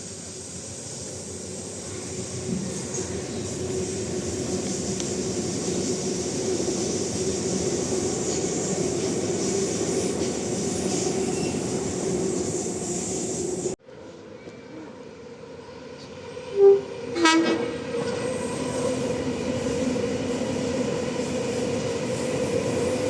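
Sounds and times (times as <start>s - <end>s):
electric train rumbling past: 0.0s - 23.0s.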